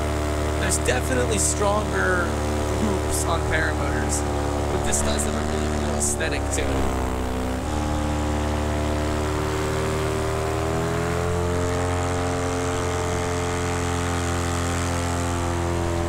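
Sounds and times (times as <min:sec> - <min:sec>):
paramotor engine and propeller: 0:00.0 - 0:16.0.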